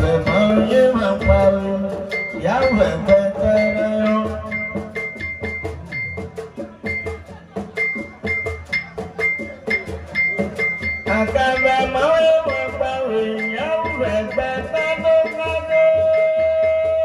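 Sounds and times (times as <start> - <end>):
drums and percussion: 0.0 - 17.0
high bell-like note: 0.2 - 17.0.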